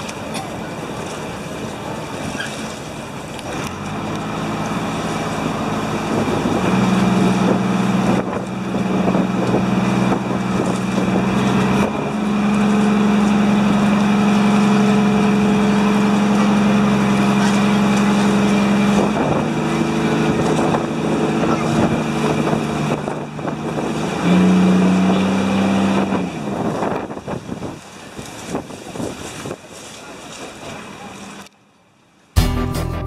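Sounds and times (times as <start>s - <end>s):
water noise: 0.0s - 31.8s
wind: 0.0s - 32.4s
boat engine drone: 0.0s - 33.0s.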